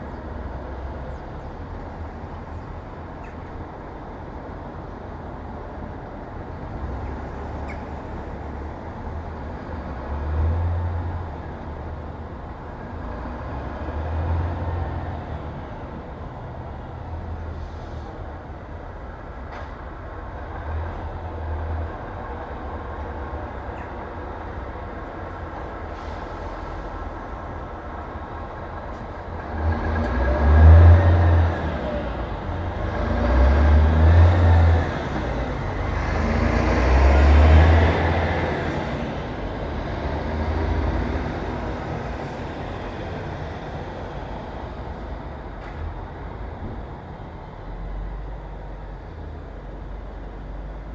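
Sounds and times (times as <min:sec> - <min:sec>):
heavy vehicles passing: 0:00.0 - 0:50.9
road noise: 0:00.0 - 0:50.9.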